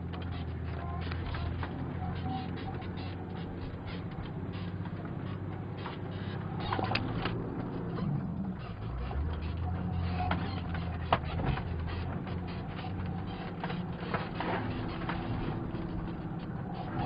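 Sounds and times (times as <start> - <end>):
off-road engine at low revs: 0.0 - 17.0
vehicle body rattling and creaking: 0.0 - 17.0.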